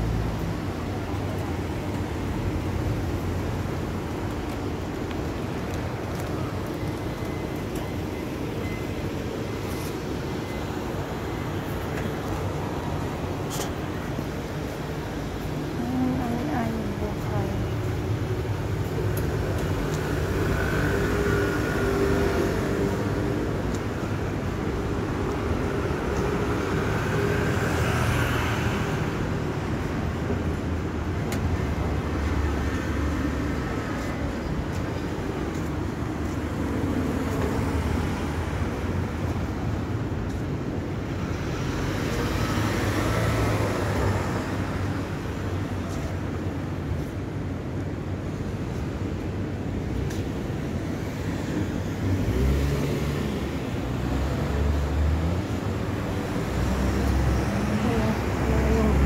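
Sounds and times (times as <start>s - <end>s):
vehicles driving past: 0.0s - 59.0s.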